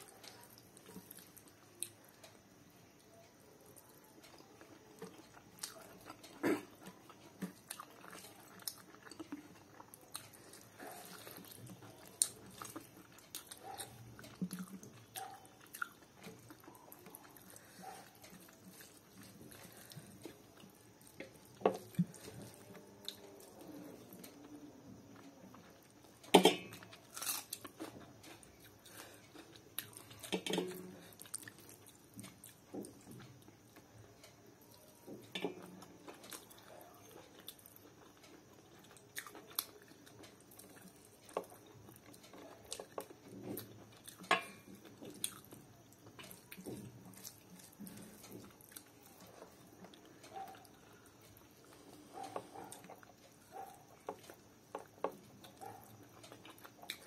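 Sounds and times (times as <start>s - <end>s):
chewing and biting food: 3.8s - 57.0s.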